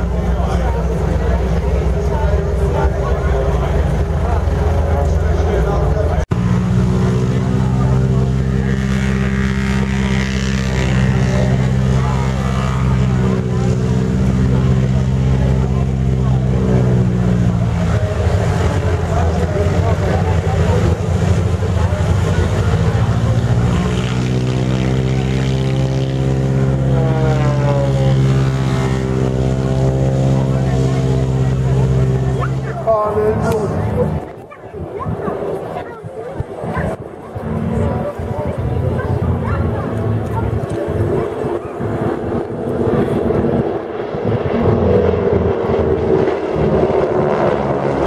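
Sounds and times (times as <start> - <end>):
propeller planes flying past: 0.0 - 48.0
radial aircraft engine droning: 0.0 - 48.0.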